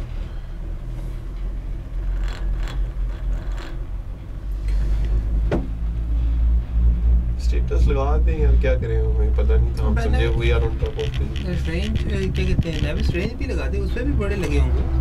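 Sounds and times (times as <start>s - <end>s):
gondola cabin rumbling on cable: 0.0s - 15.0s.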